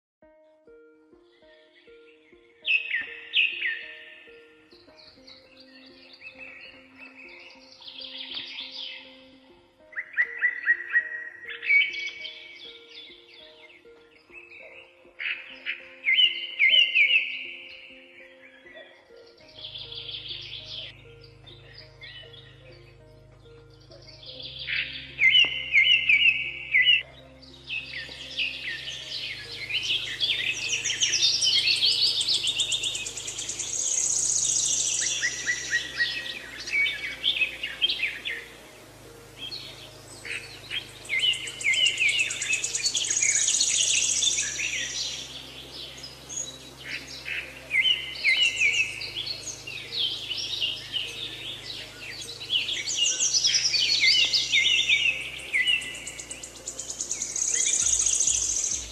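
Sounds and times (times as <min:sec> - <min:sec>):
low sustained music drone: 0:00.3 - 0:58.9
songbirds chirping and trilling: 0:00.3 - 0:58.9.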